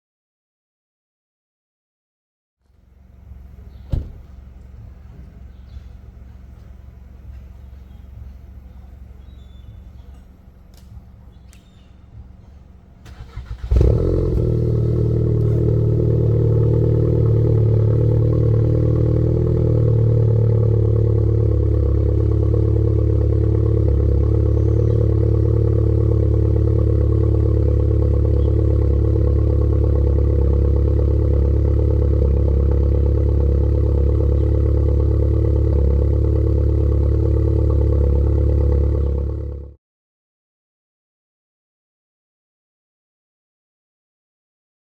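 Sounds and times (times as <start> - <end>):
car engine cranking and idling: 2.7 - 39.7.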